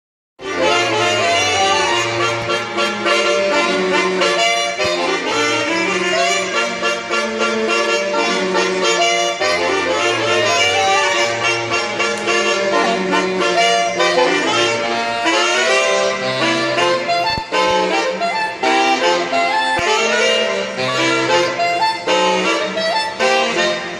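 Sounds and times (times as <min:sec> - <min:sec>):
saxophone quartet playing: 0:00.4 - 0:23.9.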